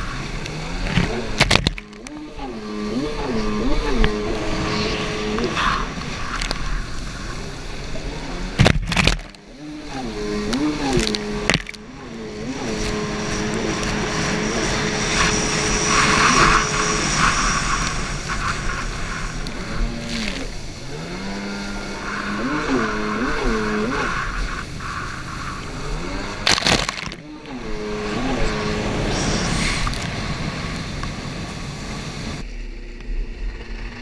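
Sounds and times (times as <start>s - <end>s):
rushing water spray: 0.0s - 32.4s
jet ski engine: 0.0s - 34.0s
wind: 0.0s - 34.0s.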